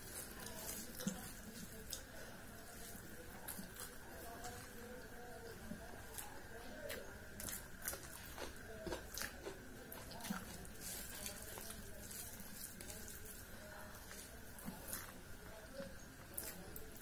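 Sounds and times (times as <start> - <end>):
food squelching as hand mixes: 0.0 - 17.0.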